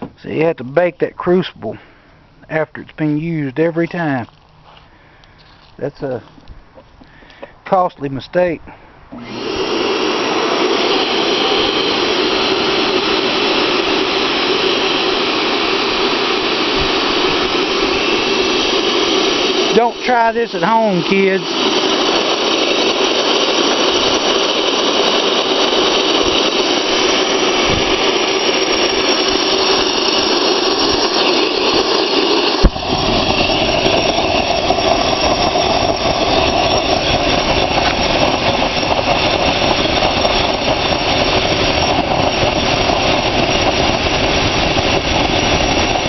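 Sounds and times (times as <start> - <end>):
furnace burner rushing: 7.7 - 46.0.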